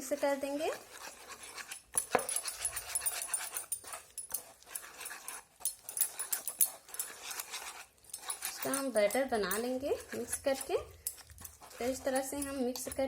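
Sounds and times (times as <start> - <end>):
spoon scraping batter in bowl: 0.0 - 13.0.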